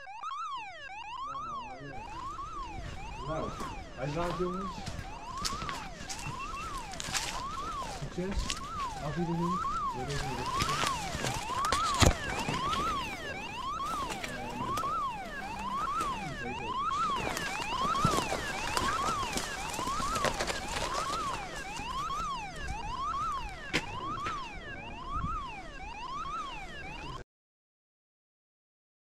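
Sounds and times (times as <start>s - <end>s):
electronic alarm siren wailing: 0.0s - 27.2s.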